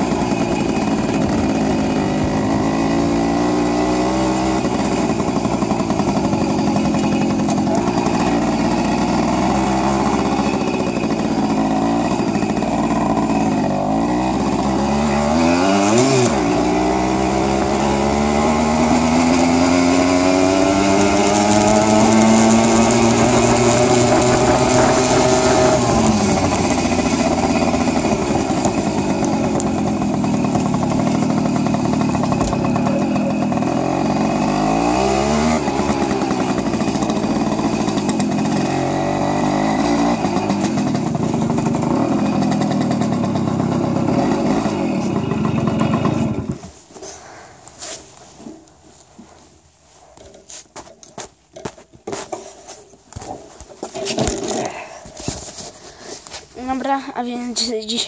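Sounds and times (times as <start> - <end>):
moped two-stroke engine accelerating: 0.0 - 49.4, 50.0 - 58.0.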